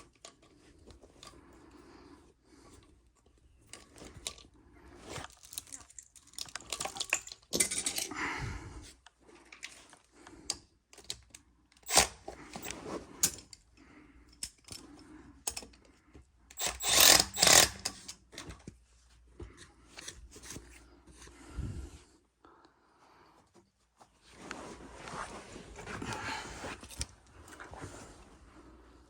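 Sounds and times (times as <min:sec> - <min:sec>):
tools and parts being handled: 0:00.0 - 0:08.2, 0:08.8 - 0:21.9, 0:23.4 - 0:28.7.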